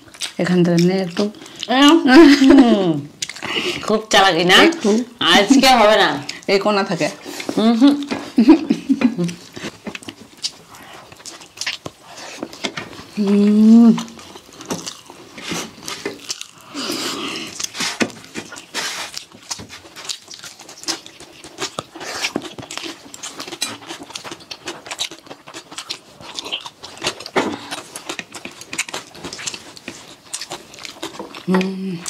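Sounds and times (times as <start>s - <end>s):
wet chewing: 0.0s - 32.0s.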